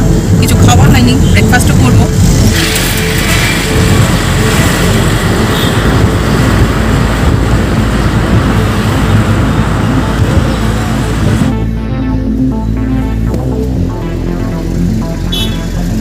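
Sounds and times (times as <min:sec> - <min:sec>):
music: 0:00.0 - 0:16.0
road and traffic noise: 0:00.0 - 0:16.0.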